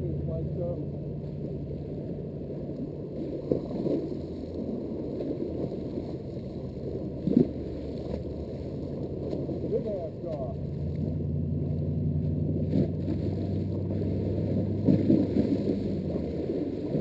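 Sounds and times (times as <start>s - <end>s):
water sloshing and gurgling: 0.0s - 17.0s
water splashes: 0.0s - 17.0s.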